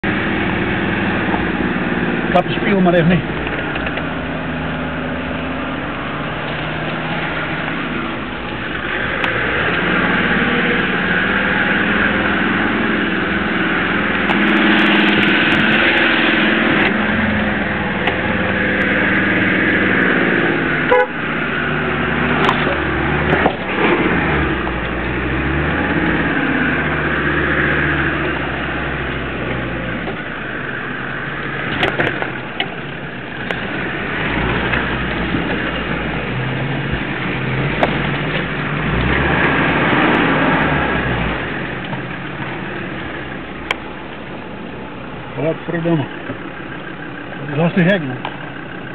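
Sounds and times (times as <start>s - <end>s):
off-road vehicle engine running: 0.0s - 48.9s.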